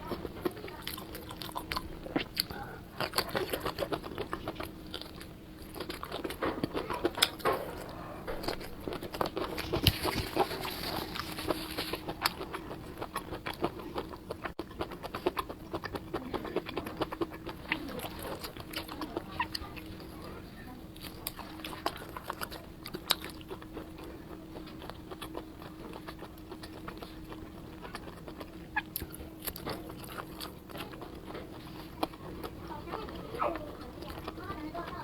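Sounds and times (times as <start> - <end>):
crunchy chewing of fried food: 0.0 - 35.0.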